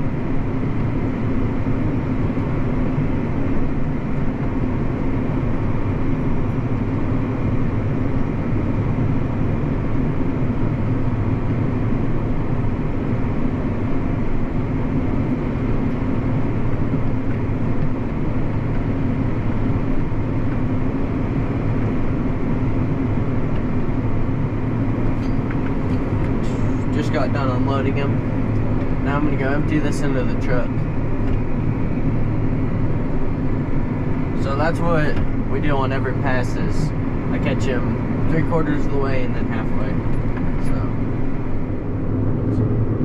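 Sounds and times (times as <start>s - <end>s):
heavy farm machinery engine drone: 0.0s - 43.0s.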